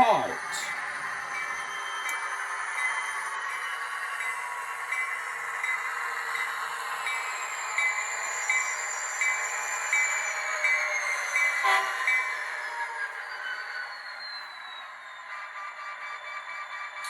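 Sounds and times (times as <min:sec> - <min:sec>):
model locomotive engine sound: 0:00.0 - 0:17.0.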